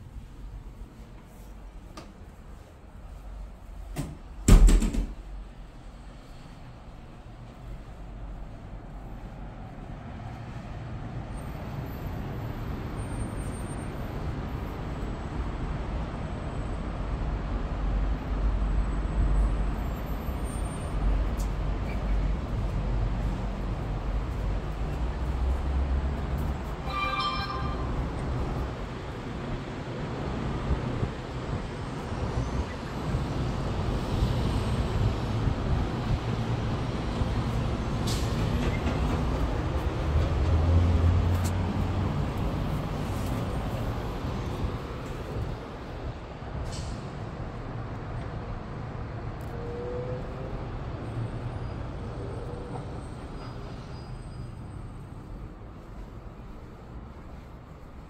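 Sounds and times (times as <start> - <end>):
distant city traffic hum: 0.0 - 58.0.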